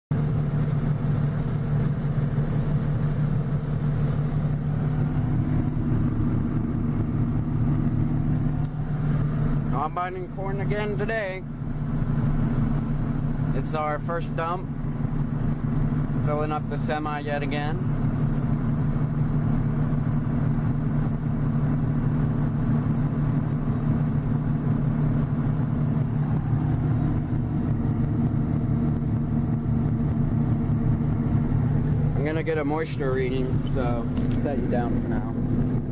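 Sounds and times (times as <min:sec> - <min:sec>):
combine engine hum: 0:00.1 - 0:35.9
higher hum: 0:00.2 - 0:19.6, 0:22.8 - 0:35.9.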